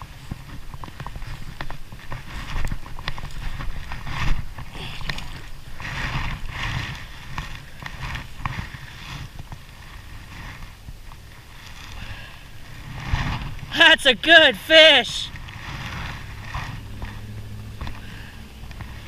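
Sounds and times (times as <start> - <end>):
rustling of jacket and grass: 0.0 - 19.0.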